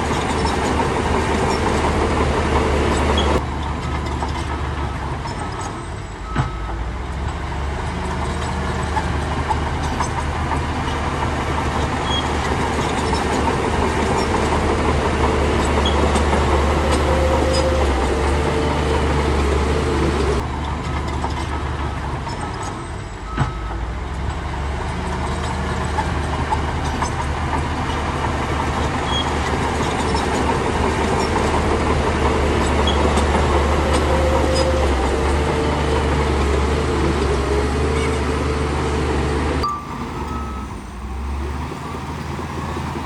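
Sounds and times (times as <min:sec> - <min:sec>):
bulldozer diesel engine clattering: 0:00.0 - 0:43.0.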